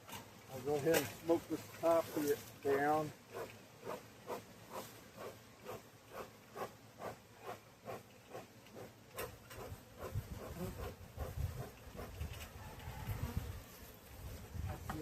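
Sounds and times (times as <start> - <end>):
bee smoker bellows puffing: 0.1 - 15.0.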